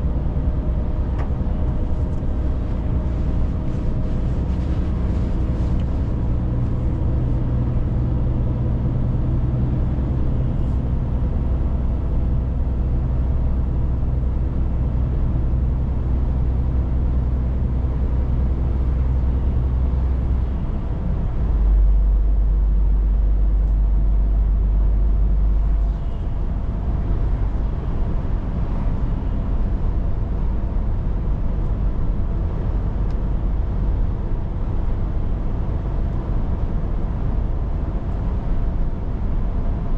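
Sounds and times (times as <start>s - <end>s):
road noise: 0.0s - 39.9s
truck engine droning: 0.0s - 39.9s.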